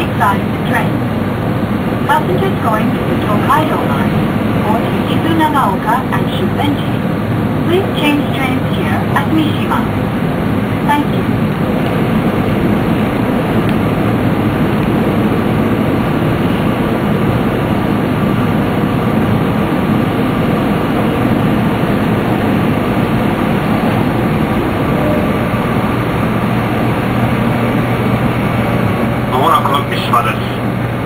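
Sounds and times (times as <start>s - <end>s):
train rumbling through tunnel: 0.0s - 31.0s.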